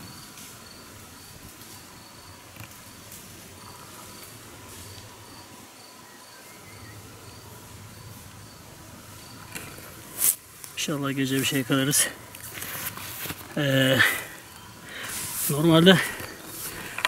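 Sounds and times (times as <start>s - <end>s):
forest ambience hiss: 0.0s - 17.0s
insect chirping in pulses: 0.0s - 17.0s.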